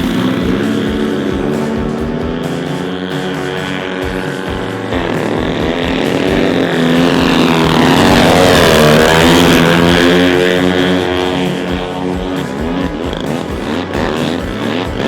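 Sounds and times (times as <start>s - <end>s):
model aircraft engine passing by: 0.0s - 15.0s.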